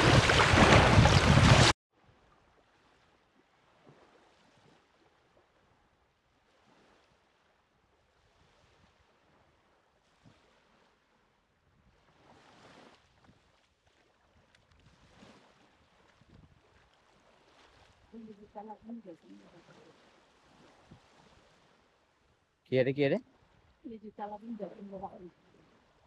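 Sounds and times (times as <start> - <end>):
small waves washing on sand: 0.0 - 1.7, 2.5 - 22.2.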